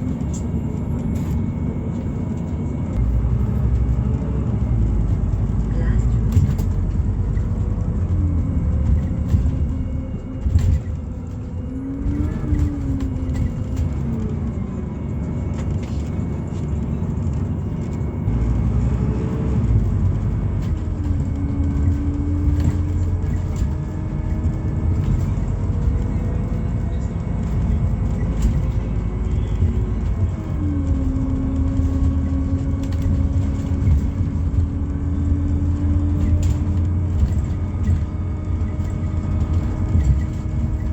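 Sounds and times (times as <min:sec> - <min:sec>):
bus engine running: 0:00.0 - 0:40.9
gearbox whine: 0:00.0 - 0:40.9
low rumble of road noise: 0:00.0 - 0:40.9.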